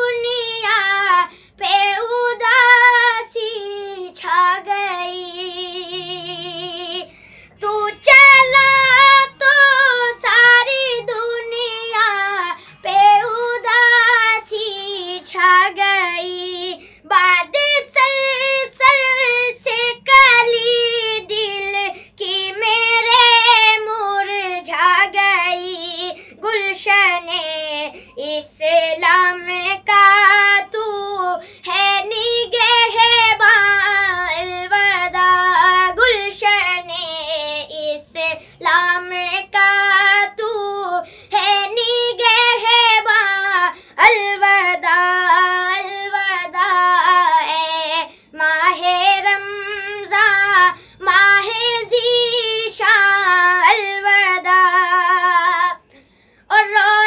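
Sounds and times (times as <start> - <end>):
boy singing solo: 0.0 - 55.8.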